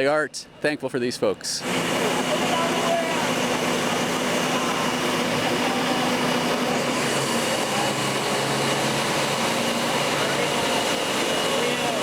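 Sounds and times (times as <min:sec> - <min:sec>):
outdoor background noise: 0:00.0 - 0:12.0
machine engine humming: 0:01.6 - 0:12.0.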